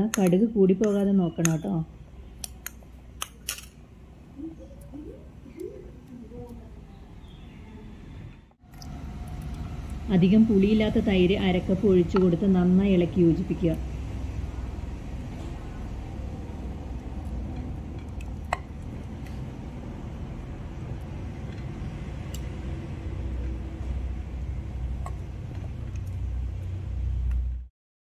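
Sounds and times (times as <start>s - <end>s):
steady low rumble: 3.9s - 27.7s.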